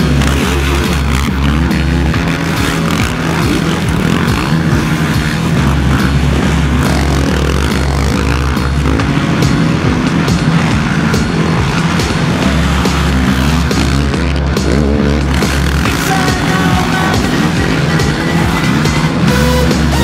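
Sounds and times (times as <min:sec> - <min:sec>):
music with pulsing bass: 0:00.0 - 0:20.0
quad engines revving: 0:00.0 - 0:20.0.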